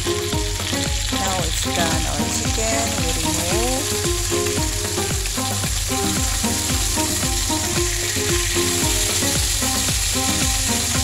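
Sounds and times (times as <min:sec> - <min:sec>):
background music with steady beat: 0:00.0 - 0:11.0
chicken sizzling in oil: 0:00.0 - 0:11.0.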